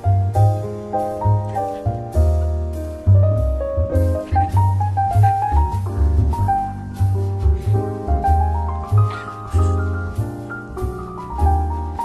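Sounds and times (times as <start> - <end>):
bass line: 0.0 - 12.0
piano chords: 0.0 - 12.0.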